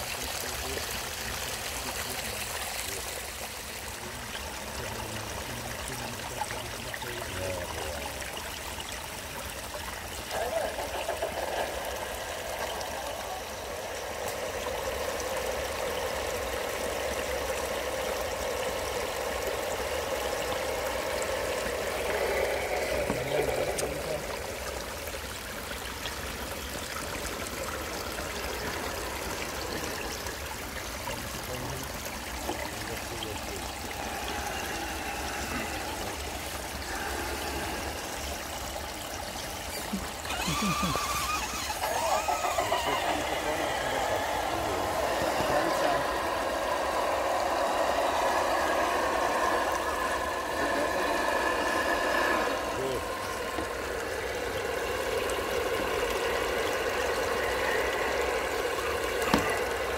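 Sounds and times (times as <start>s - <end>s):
creek water trickling over rocks: 0.0s - 59.9s.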